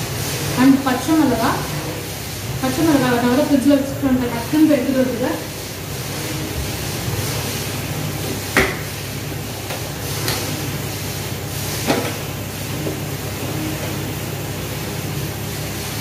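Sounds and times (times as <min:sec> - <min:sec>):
kitchen background noise: 0:00.0 - 0:16.0.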